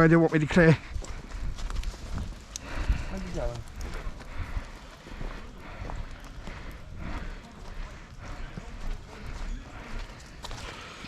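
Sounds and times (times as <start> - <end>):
footsteps of person walking: 0.0 - 11.0.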